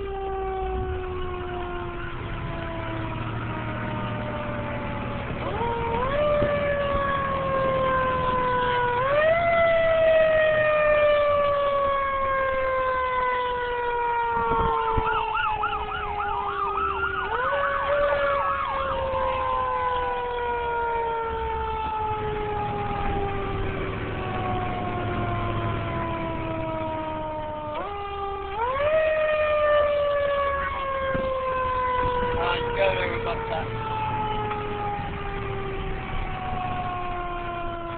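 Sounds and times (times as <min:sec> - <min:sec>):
fast-warbling siren: 0:00.0 - 0:37.9
low engine rumble: 0:00.1 - 0:37.9.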